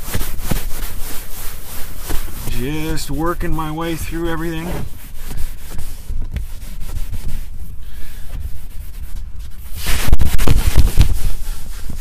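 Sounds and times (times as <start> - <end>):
brush scrubbing leather: 0.0 - 7.8, 8.4 - 12.0.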